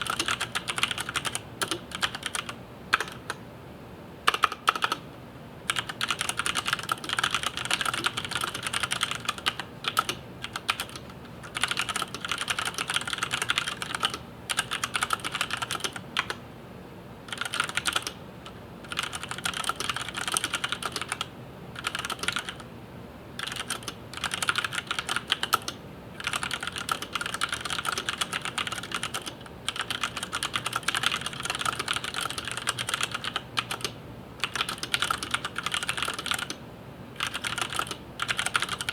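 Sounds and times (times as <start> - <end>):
mechanical keyboard typing: 0.0 - 3.4, 4.3 - 5.0, 5.7 - 16.4, 17.3 - 18.2, 18.9 - 22.6, 23.4 - 36.6, 37.2 - 38.9.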